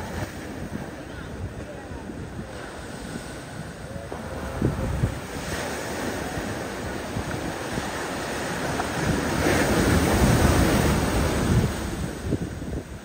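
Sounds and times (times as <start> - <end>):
sea surf washing in: 0.0 - 13.0
wind buffeting microphone: 0.0 - 13.0.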